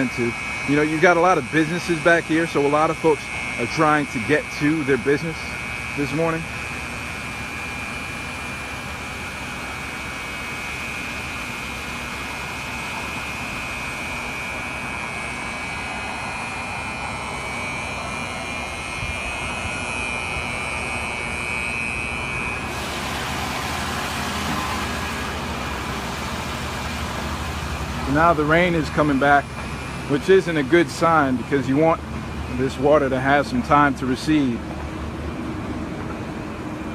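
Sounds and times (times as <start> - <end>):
thin high whine: 0.0 - 36.9
vehicle engine drone: 0.0 - 36.9.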